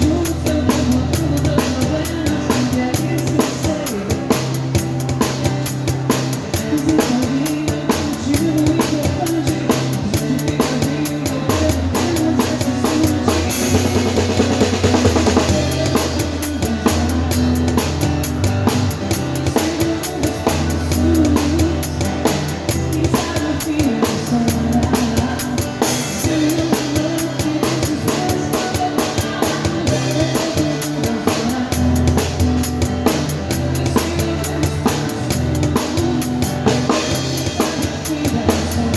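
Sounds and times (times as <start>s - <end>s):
acoustic guitar: 0.0s - 38.9s
drum kit beat: 0.0s - 38.9s.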